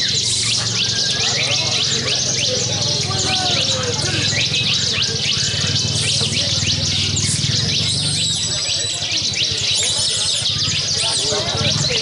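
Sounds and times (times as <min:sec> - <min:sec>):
many small birds chirping and trilling: 0:00.0 - 0:12.0.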